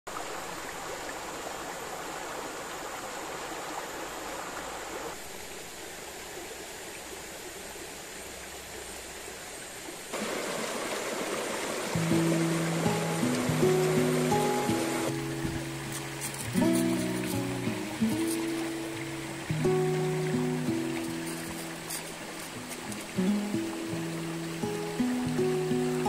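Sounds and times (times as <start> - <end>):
stream running over rocks: 0.1 - 26.0.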